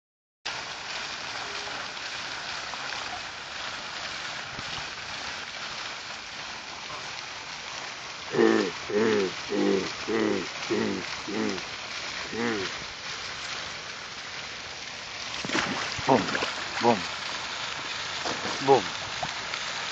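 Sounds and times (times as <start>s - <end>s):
steady hiss: 0.5s - 19.9s.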